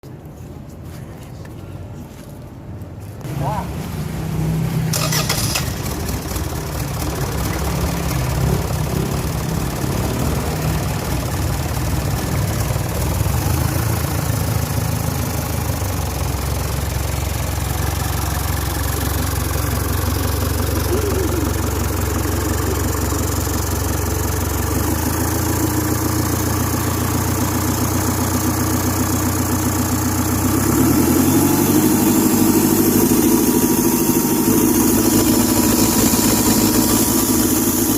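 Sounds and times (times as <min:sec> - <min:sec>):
diesel engine idling: 0:03.3 - 0:37.9.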